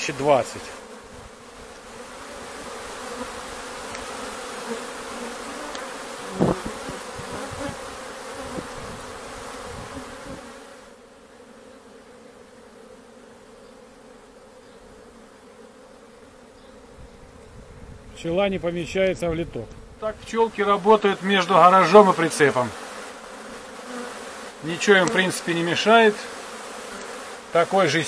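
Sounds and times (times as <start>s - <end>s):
honeybees humming: 0.0s - 28.0s.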